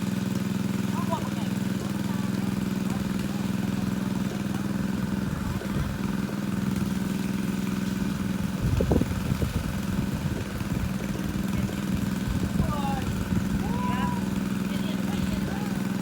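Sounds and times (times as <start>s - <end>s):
water pump engine running: 0.0s - 16.0s.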